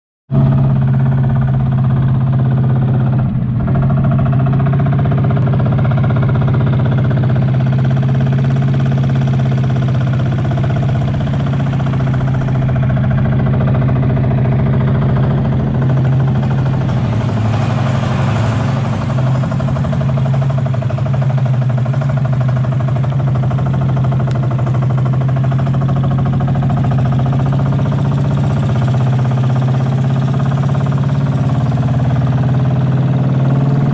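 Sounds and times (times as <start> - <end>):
motorboat engine droning: 0.3 - 33.9.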